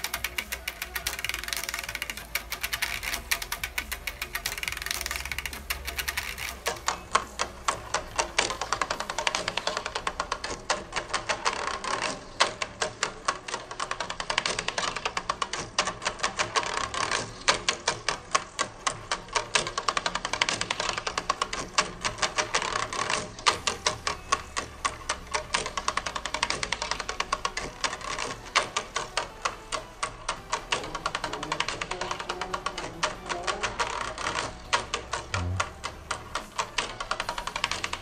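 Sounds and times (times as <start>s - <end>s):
rapid clicking of flasher drum: 0.0s - 38.0s.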